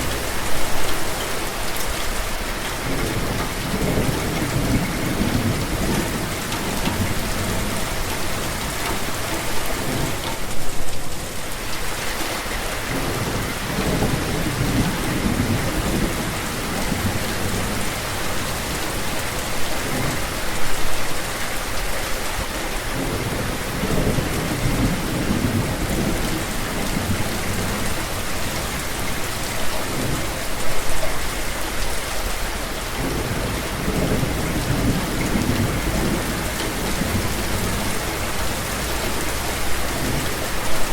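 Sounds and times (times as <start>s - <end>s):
rolling thunder rumbles: 0.0s - 12.0s, 12.8s - 20.7s, 22.8s - 31.0s, 33.0s - 40.9s
steady rain falling: 0.0s - 40.9s.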